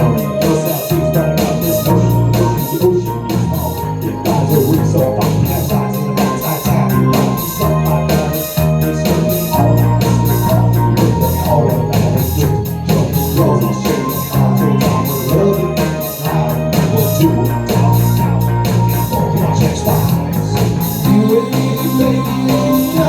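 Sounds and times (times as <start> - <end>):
bass: 0.0 - 23.0
drums keeping steady beat: 0.0 - 23.0
organ-like keyboard: 0.0 - 23.0.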